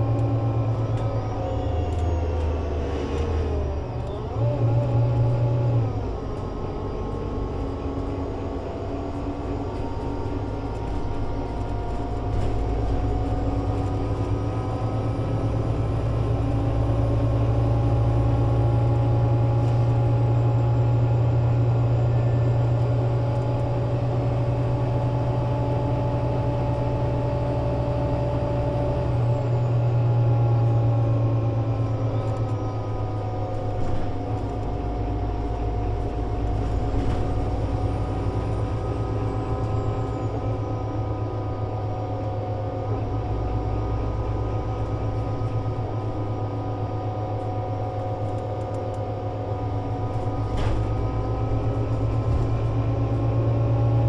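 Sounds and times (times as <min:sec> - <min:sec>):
bus engine hum with whine: 0:00.0 - 0:54.0.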